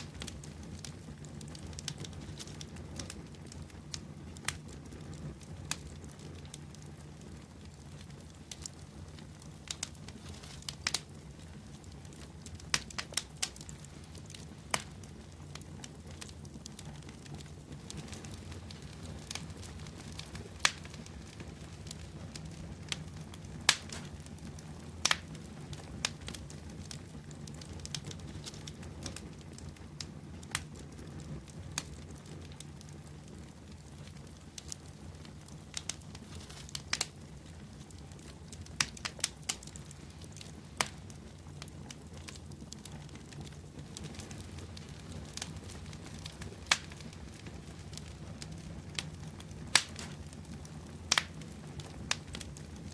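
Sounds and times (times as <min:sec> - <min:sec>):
bonfire flames rumbling: 0:00.0 - 0:52.9
fire crackles and pops: 0:00.0 - 0:52.9.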